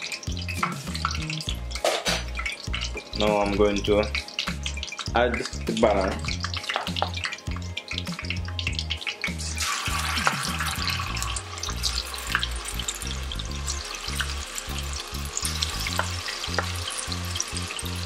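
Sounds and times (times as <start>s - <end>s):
chicken frying in oil: 0.0s - 18.0s.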